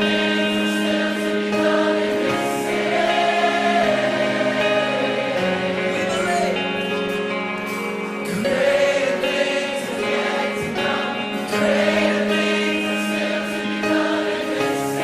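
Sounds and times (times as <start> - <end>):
choir singing: 0.0 - 7.3, 8.0 - 15.0
sustained instrumental chords: 0.0 - 15.0.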